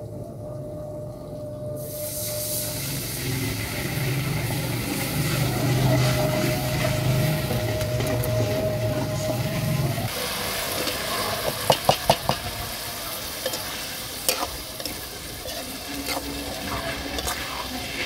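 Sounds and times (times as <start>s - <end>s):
food sizzling in hot oil: 1.8s - 18.0s.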